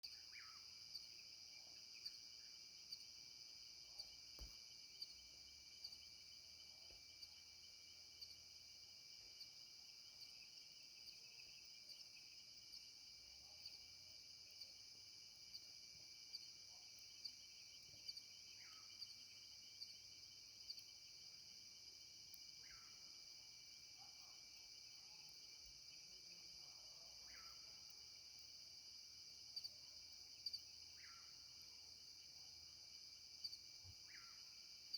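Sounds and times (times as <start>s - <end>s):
night insects chorus: 0.0s - 34.9s.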